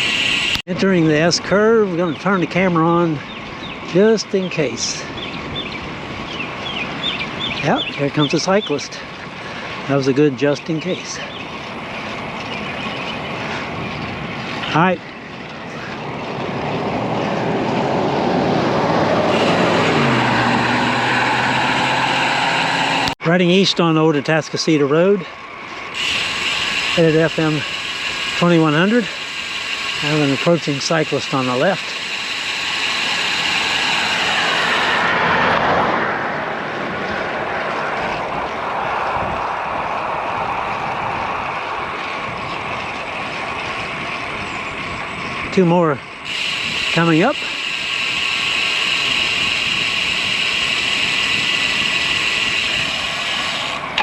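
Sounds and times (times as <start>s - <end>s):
vehicle engine hum: 0.0s - 54.0s
wind and road noise: 0.0s - 54.0s.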